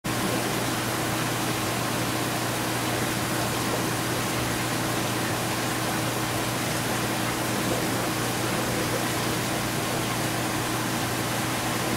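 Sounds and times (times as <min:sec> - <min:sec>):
low electrical hum: 0:00.1 - 0:11.9.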